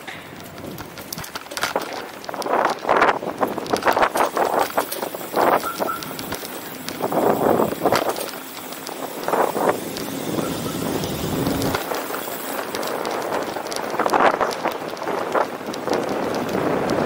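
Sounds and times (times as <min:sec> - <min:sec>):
passing traffic: 0:00.0 - 0:17.0.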